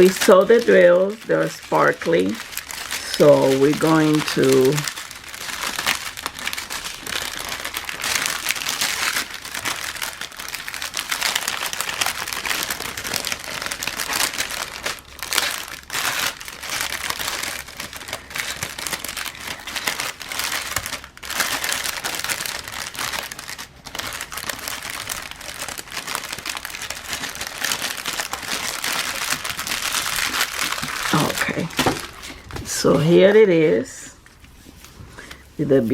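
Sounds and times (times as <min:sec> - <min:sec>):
plastic packaging crinkling: 0:00.0 - 0:35.9.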